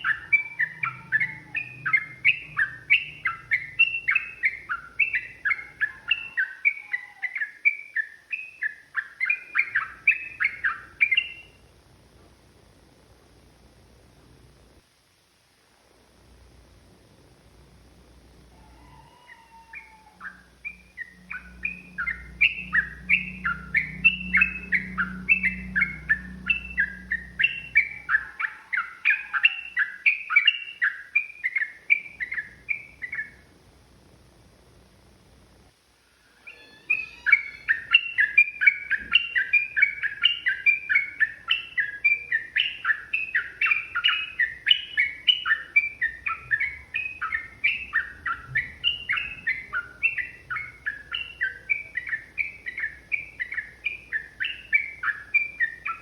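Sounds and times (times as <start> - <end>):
bird singing whistled notes: 0.0 - 11.6, 18.6 - 33.4, 36.3 - 56.0.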